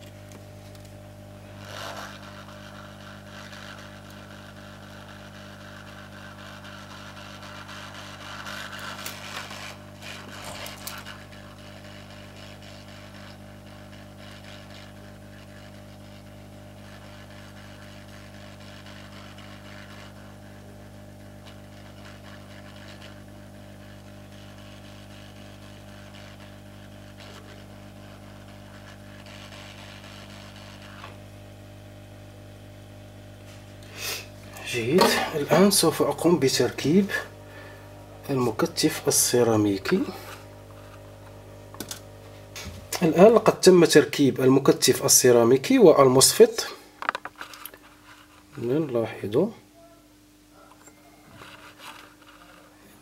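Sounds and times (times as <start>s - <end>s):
hot-air station blowing: 0.0s - 53.0s.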